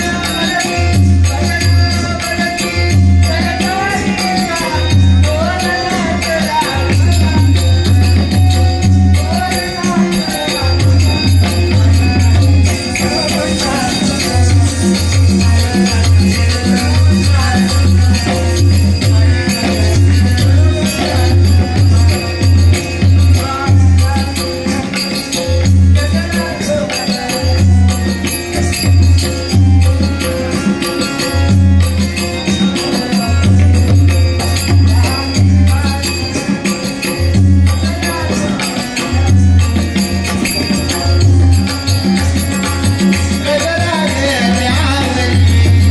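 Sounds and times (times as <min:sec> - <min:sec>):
jingling percussion: 0:00.0 - 0:45.9
loud folk music: 0:00.0 - 0:45.9.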